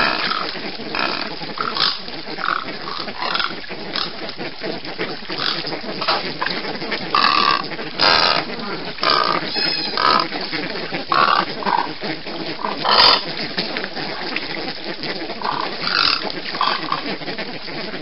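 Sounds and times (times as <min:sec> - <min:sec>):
ibises calling: 0:00.0 - 0:18.0.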